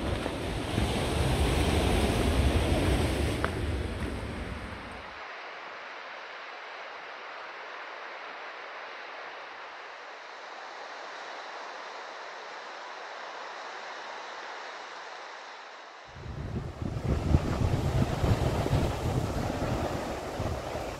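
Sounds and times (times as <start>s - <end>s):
sea surf rushing: 0.0s - 20.9s.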